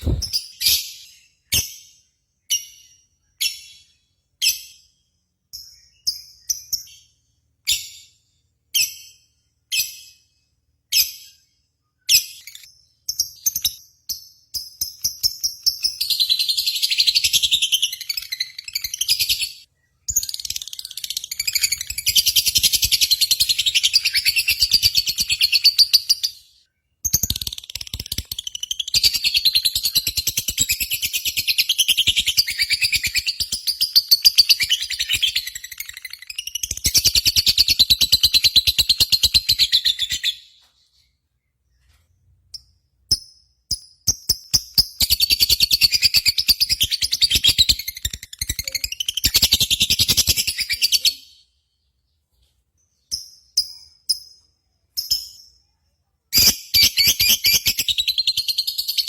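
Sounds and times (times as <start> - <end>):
small bird chattering song: 0.0 - 8.2, 10.9 - 59.0.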